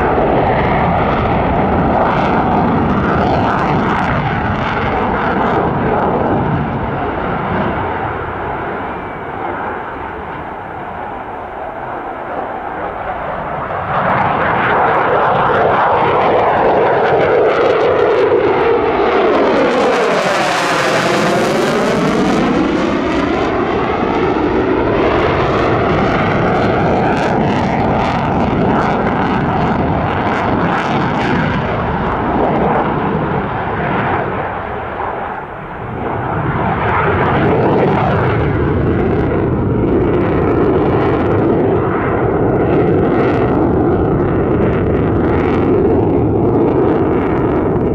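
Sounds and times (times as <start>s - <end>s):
jet afterburner roar: 0.0s - 47.9s.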